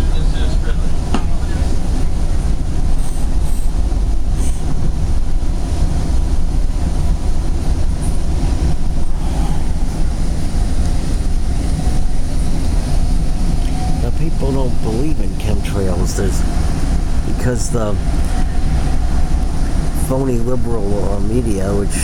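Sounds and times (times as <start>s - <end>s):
train rumbling on track: 0.0s - 22.0s.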